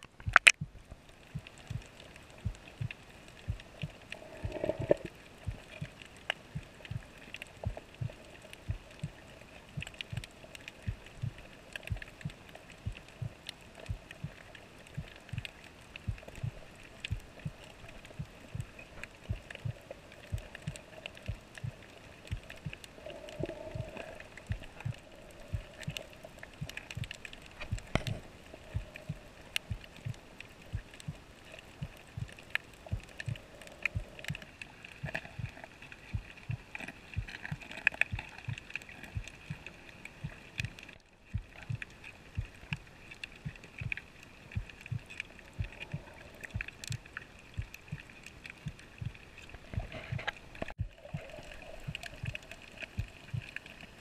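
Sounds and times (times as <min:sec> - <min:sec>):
soft low underwater thumps: 0:00.0 - 0:53.8
faint steady hiss: 0:00.0 - 0:54.0.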